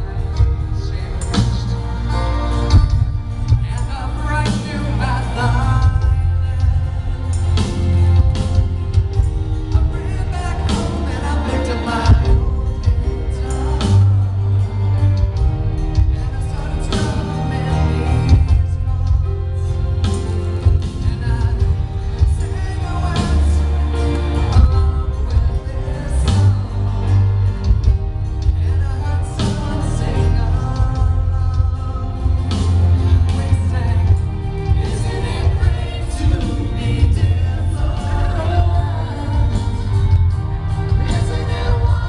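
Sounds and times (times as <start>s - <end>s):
live pop song with singing: 0.0s - 42.0s.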